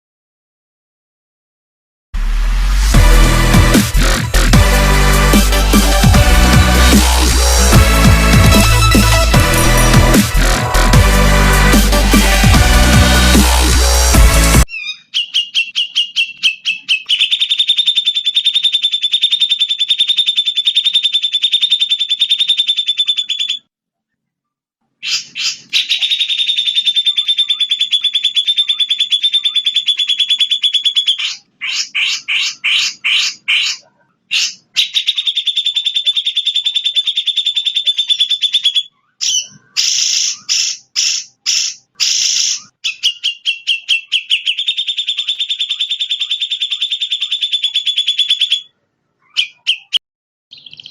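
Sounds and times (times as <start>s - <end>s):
bird song buzzy trill: 3.0s - 23.7s, 25.0s - 50.9s.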